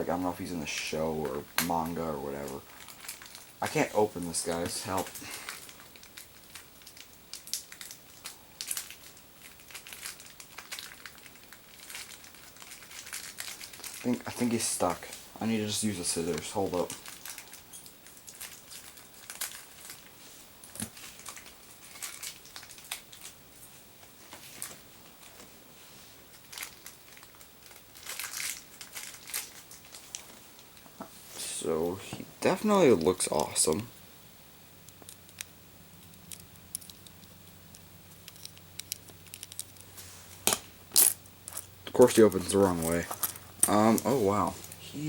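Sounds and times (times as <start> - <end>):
steady low hum: 0.0 - 45.0
plastic packaging crinkling: 0.2 - 25.5, 26.2 - 31.1, 34.9 - 45.0.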